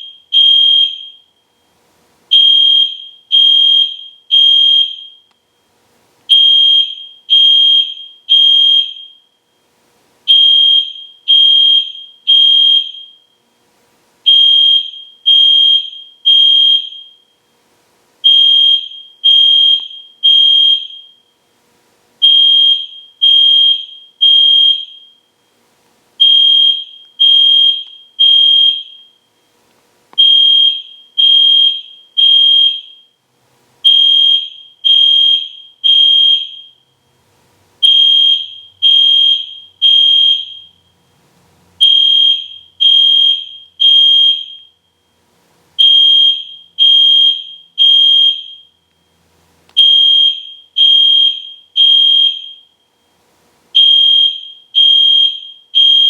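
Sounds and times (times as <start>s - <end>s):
fire alarm horn blasts: 0.0s - 1.6s, 2.3s - 5.6s, 6.3s - 9.6s, 10.3s - 13.4s, 14.2s - 17.4s, 18.2s - 21.4s, 22.2s - 25.3s, 26.2s - 29.4s, 30.2s - 33.2s, 33.8s - 36.9s, 37.8s - 40.9s, 41.8s - 45.2s, 45.8s - 48.8s, 49.8s - 53.1s, 53.8s - 56.0s.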